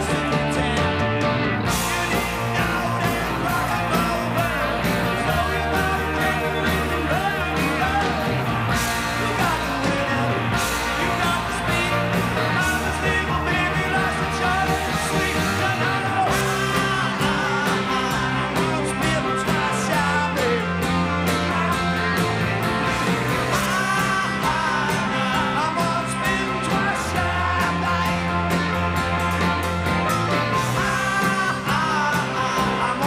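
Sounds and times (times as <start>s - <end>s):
man singing: 0.0s - 28.9s, 30.5s - 33.0s
drums: 0.0s - 33.0s
electric guitars: 0.0s - 33.0s.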